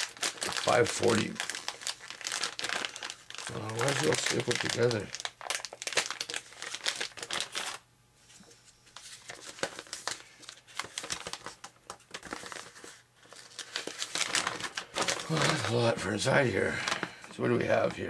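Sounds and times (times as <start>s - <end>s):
plastic bag crinkling: 0.0s - 7.8s, 9.0s - 18.0s.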